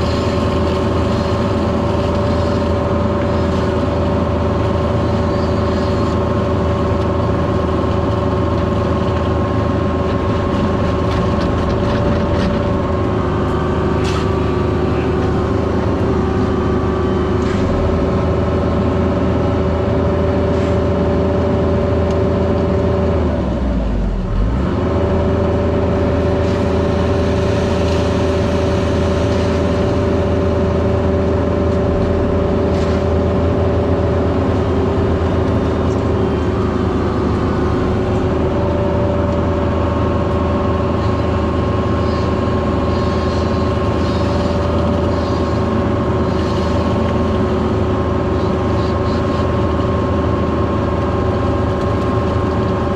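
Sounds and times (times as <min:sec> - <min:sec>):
diesel engine running at high revs: 0:00.0 - 0:52.9.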